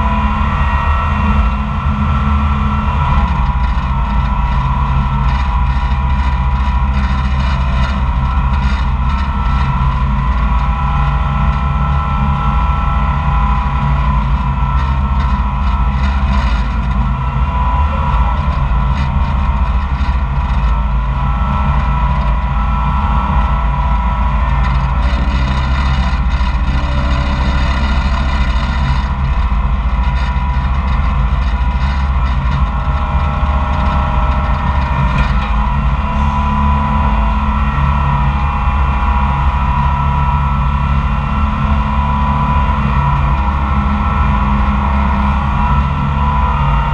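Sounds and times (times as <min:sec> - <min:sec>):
dragline engine running under load: 0:00.0 - 0:46.9.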